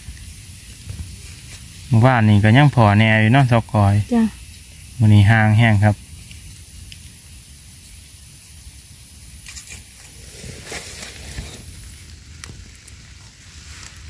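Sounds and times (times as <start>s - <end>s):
rustles of dry leaf litter: 0.0s - 14.0s
steady high-pitched hiss: 0.0s - 14.0s.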